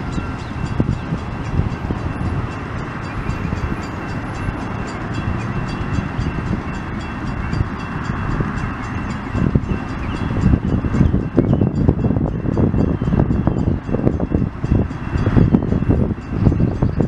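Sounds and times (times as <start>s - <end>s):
high tones from train wheels: 0.0s - 17.0s
train wheels rumbling on rails: 0.0s - 17.0s.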